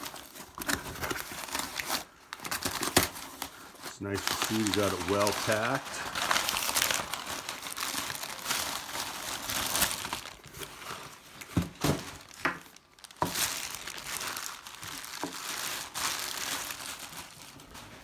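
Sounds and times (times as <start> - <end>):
packing material crinkling: 0.0 - 18.0.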